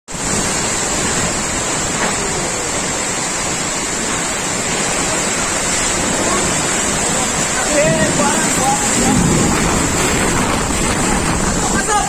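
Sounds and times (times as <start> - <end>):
heavy rain and hail: 0.1 - 12.0.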